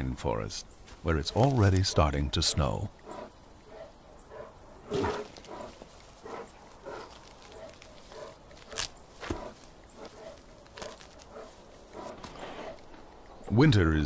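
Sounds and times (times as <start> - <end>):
bear breathing and snuffling: 0.9 - 13.4.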